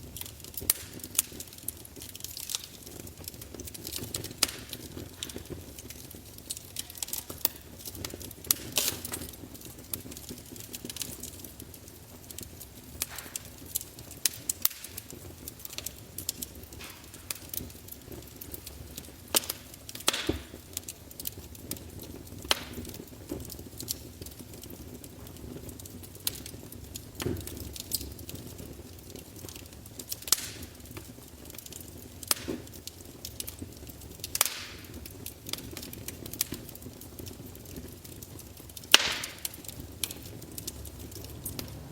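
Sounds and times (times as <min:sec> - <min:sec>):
fire crackles and pops: 0:00.0 - 0:41.9
logs burning: 0:00.0 - 0:41.9.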